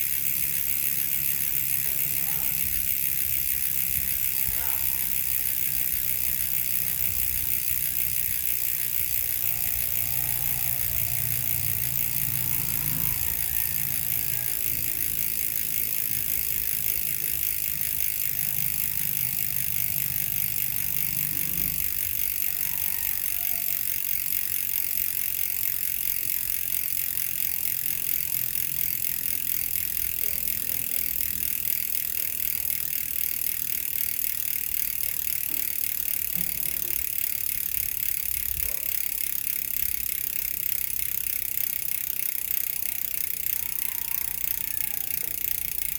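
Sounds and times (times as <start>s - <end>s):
bicycle hub freewheeling clicks: 0.0s - 45.9s.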